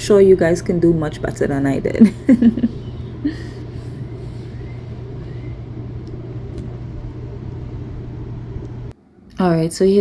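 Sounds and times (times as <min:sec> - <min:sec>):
steady low hum and rumble: 0:00.0 - 0:10.0.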